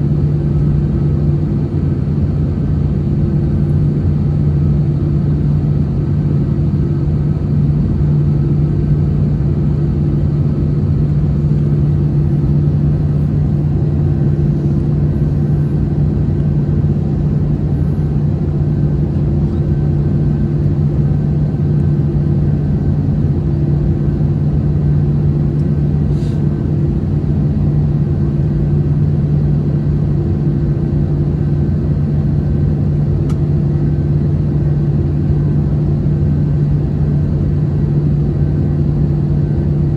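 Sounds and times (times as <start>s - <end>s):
aircraft engine hum: 0.0s - 39.9s.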